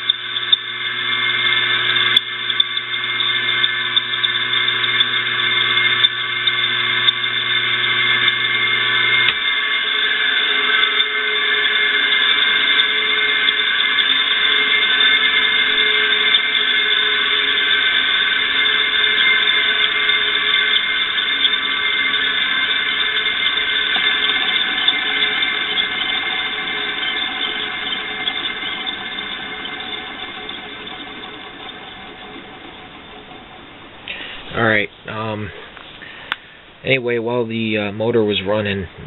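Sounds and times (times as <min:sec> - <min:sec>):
bearings squeaking and grinding: 0:00.0 - 0:34.6
electric fan motor whining: 0:00.0 - 0:39.0
low hum: 0:00.0 - 0:39.0.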